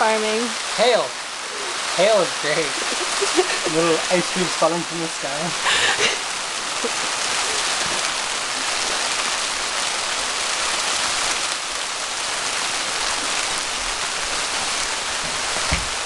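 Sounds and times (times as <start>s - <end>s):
hailstones pelting down: 0.2s - 16.0s.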